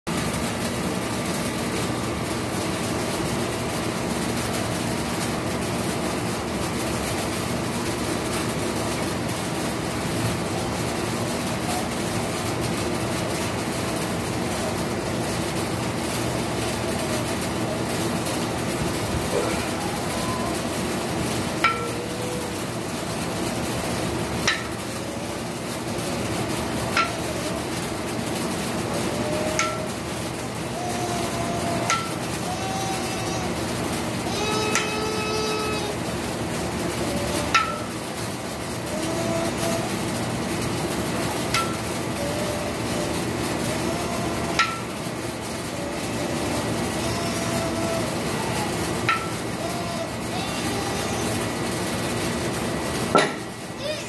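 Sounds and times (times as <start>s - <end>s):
steady background hum: 0.1s - 54.0s.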